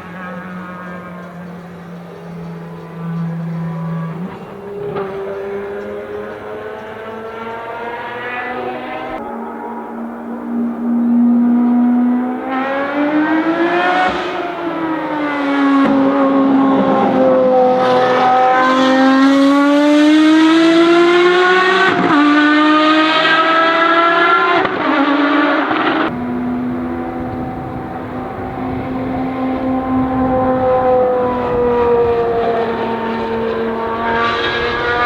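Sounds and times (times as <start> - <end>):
car engine accelerating through gears: 0.0 - 35.0.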